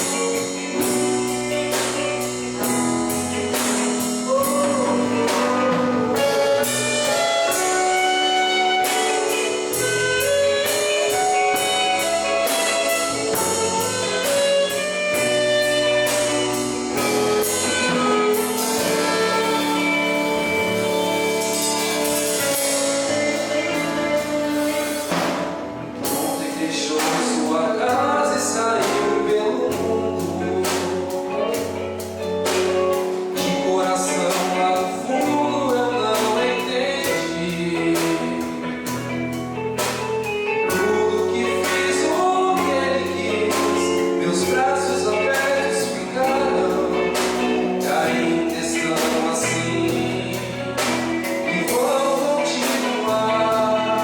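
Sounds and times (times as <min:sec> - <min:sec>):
gospel singing: 0:00.0 - 0:31.7, 0:32.6 - 0:39.0, 0:40.6 - 0:54.0
bass: 0:00.0 - 0:54.0
drum kit: 0:00.0 - 0:54.0.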